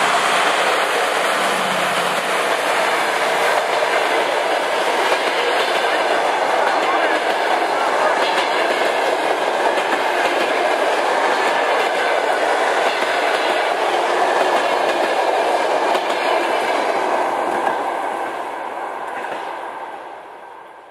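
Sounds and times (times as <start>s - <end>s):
train wheels running on rails: 0.0s - 20.9s.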